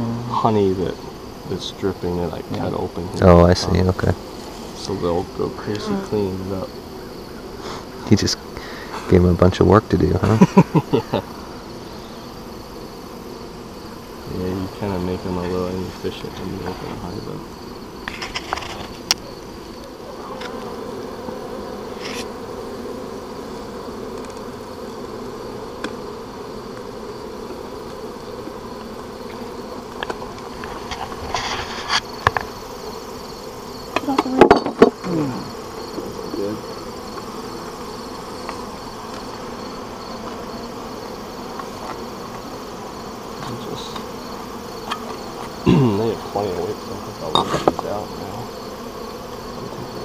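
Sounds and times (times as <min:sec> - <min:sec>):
bees buzzing: 0:00.0 - 0:50.0.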